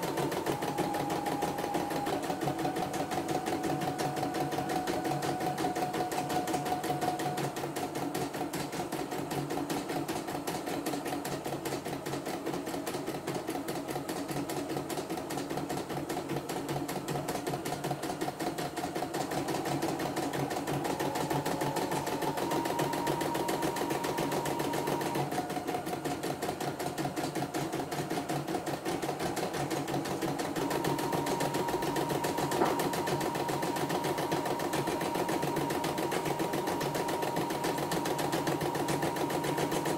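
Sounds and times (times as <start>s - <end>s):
embroidery machine needle running: 0.0s - 39.9s.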